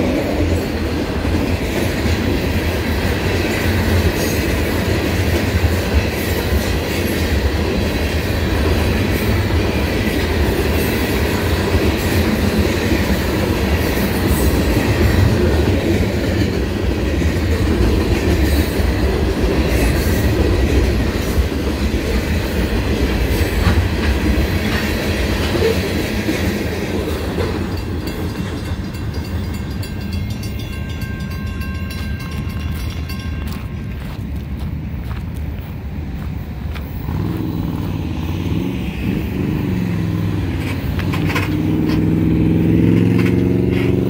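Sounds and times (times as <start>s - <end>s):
wheels clacking over rail joints: 0.0s - 34.6s, 39.1s - 44.0s
freight train rumble: 0.0s - 44.0s.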